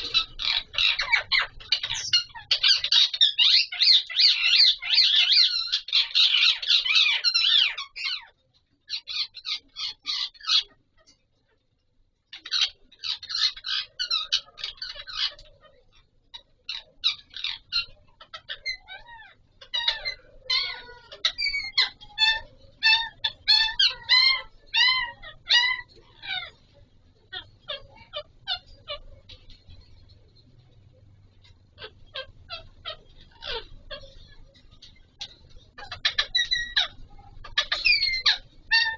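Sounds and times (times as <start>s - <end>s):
parakeets squawking: 0.0s - 38.9s.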